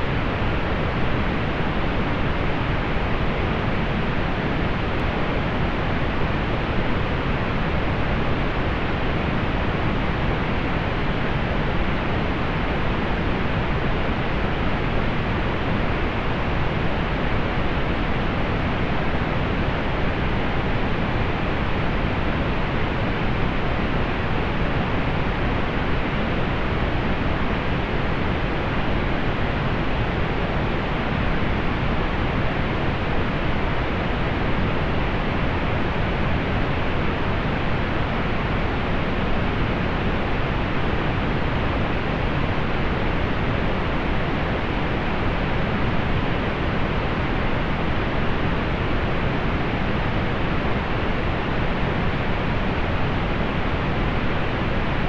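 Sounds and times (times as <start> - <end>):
steady pink noise hiss: 0.0 - 55.0.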